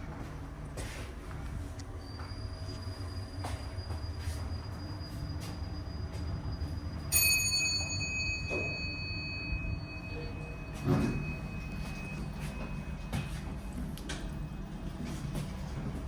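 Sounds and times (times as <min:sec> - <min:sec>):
elevator car rumble: 0:00.0 - 0:16.0
elevator arrival chime: 0:01.9 - 0:16.0.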